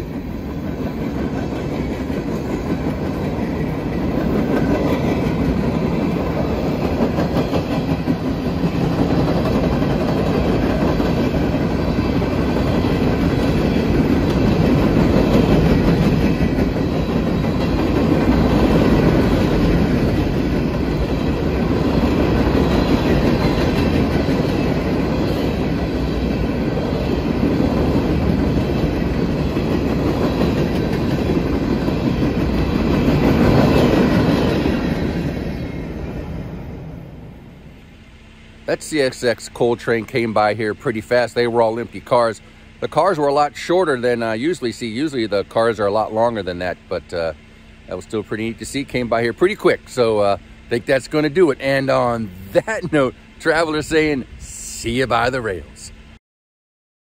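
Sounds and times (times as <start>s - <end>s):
train wheels on rails: 0.0s - 56.2s.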